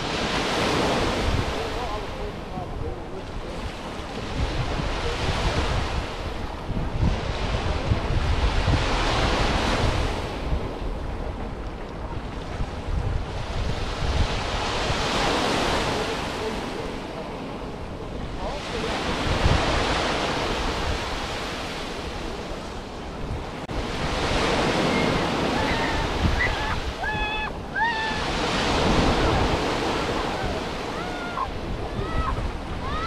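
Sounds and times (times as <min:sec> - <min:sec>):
surf washing onto beach: 0:00.0 - 0:33.0
wind rumbling on microphone: 0:00.0 - 0:33.0.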